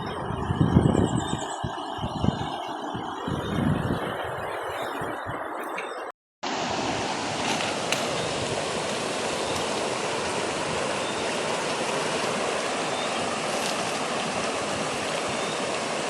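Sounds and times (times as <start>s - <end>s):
river water rushing: 2.5s - 16.0s.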